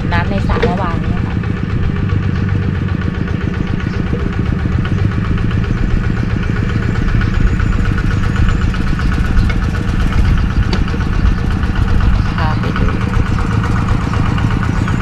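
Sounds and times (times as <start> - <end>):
diesel engine chugging: 0.0 - 15.0.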